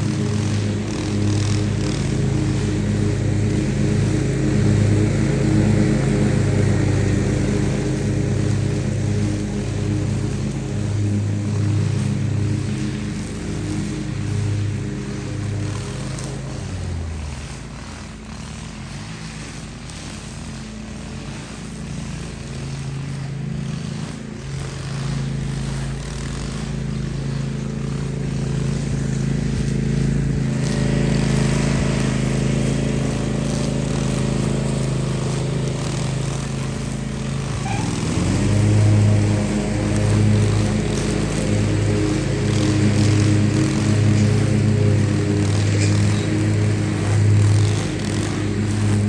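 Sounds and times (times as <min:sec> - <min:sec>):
small petrol engine running: 0:00.0 - 0:49.0.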